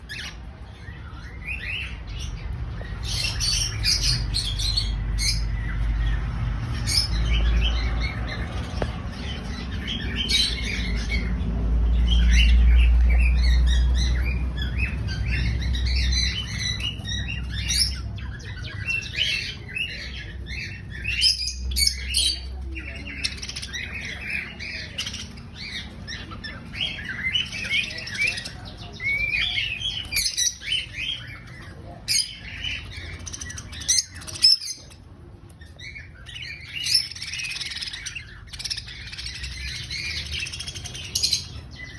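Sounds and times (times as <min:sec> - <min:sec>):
pet birds squawking and chirping: 0:00.0 - 0:41.9.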